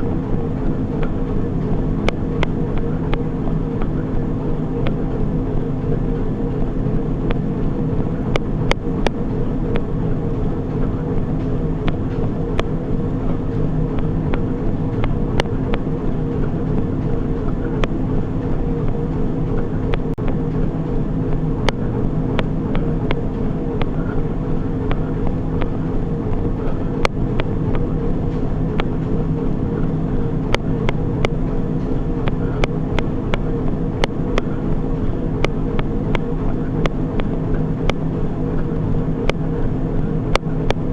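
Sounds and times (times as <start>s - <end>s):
treadmill motor and belt hum: 0.0s - 40.9s.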